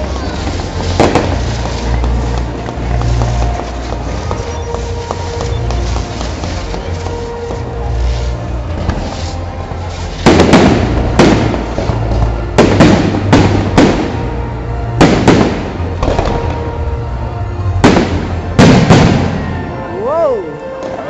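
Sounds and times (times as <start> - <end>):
fireworks bangs: 0.0 - 19.9
music playing: 0.0 - 21.0.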